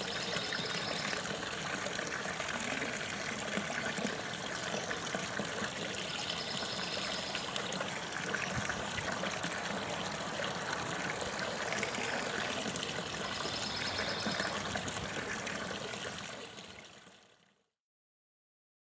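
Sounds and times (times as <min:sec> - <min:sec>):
fountain water trickling: 0:00.0 - 0:17.7.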